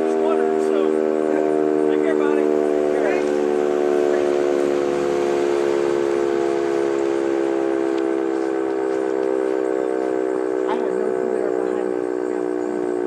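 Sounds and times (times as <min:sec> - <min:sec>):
tornado warning siren: 0:00.0 - 0:13.0.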